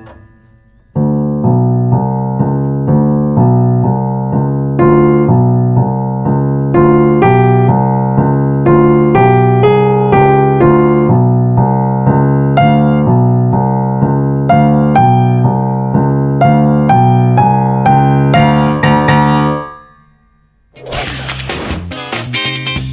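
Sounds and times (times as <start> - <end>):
solo grand piano: 0.0 - 20.4.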